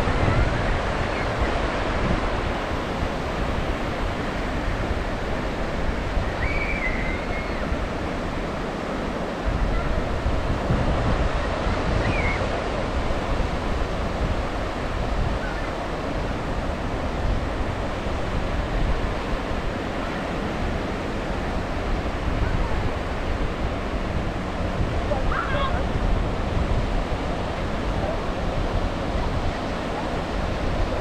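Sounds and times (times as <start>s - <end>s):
waves breaking on shore: 0.0s - 31.0s
wind rumbling on microphone: 0.0s - 31.0s.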